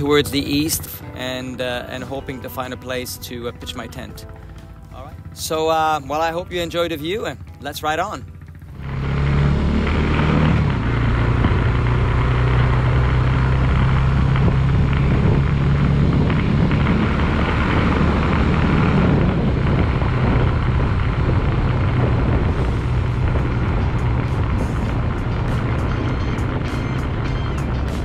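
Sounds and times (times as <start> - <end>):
small motorcycle engine running: 0.0 - 28.0
wind and road noise: 0.0 - 28.0.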